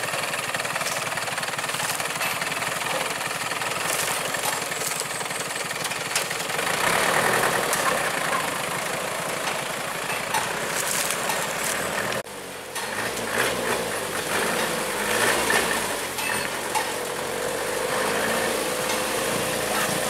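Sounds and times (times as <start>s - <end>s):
vehicle engine running: 0.0s - 20.0s
road and wind noise: 3.6s - 20.0s.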